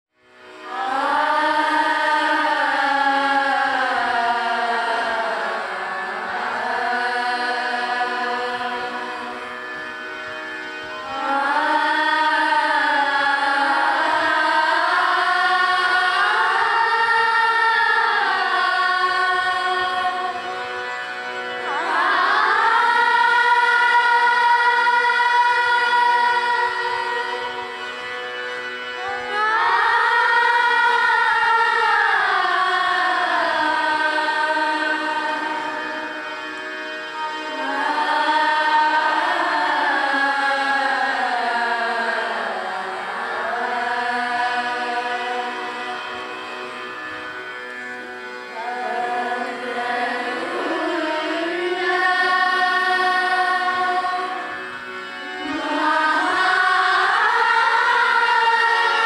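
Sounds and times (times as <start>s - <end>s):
harmonium drone: 0.1s - 59.0s
choir singing devotional song: 0.2s - 59.0s.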